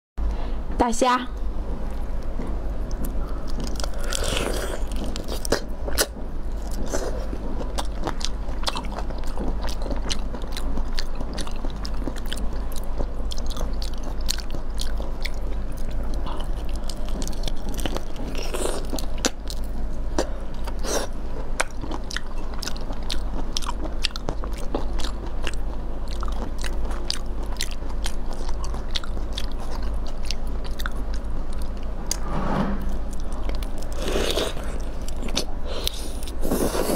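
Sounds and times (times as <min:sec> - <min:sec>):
steady low hum: 0:00.2 - 0:36.9
wet biting and chewing: 0:02.2 - 0:32.2.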